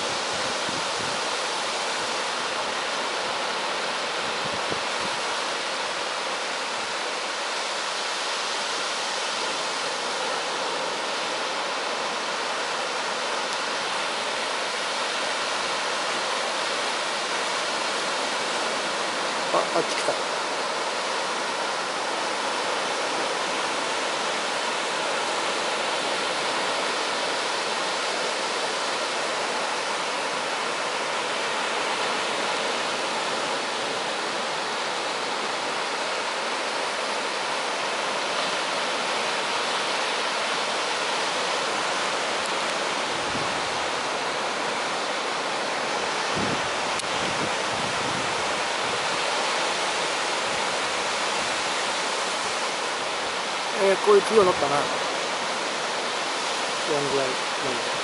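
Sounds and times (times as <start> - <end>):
ocean surf breaking: 0.0 - 58.0.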